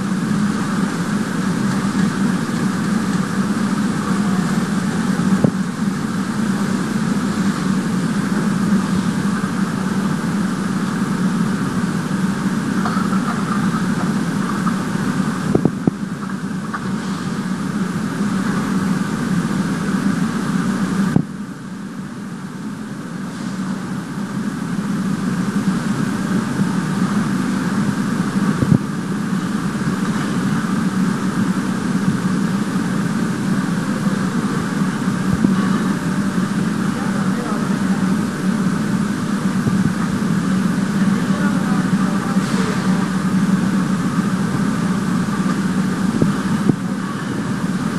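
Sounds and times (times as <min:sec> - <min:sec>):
machine hum: 0:00.0 - 0:47.9.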